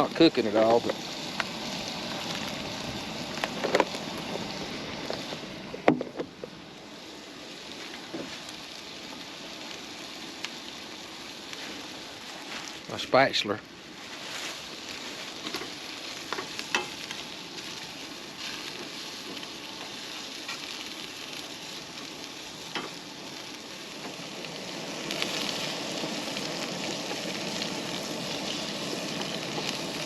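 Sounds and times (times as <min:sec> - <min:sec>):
food sizzling in a skillet: 0:00.0 - 0:30.0.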